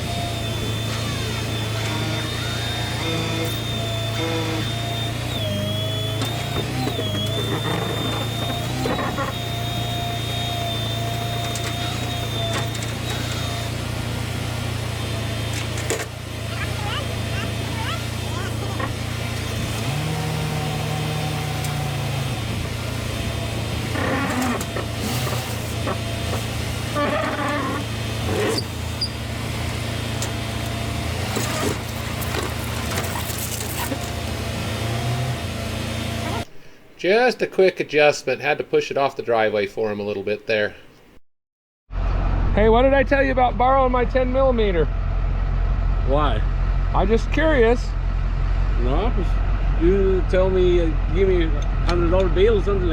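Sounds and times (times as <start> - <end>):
truck engine humming: 0.0 - 37.0, 42.0 - 52.9.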